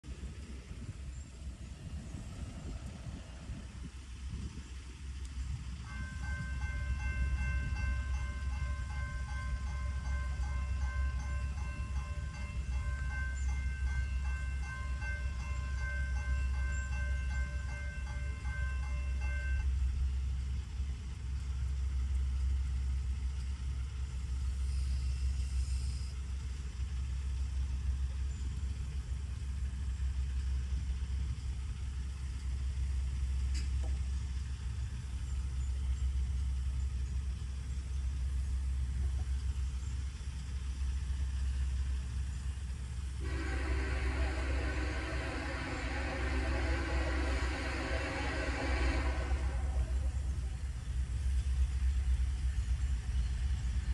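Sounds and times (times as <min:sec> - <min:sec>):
steady low rumble: 0:00.0 - 0:53.9
railroad crossing bell ringing: 0:05.4 - 0:22.8, 0:24.5 - 0:53.7.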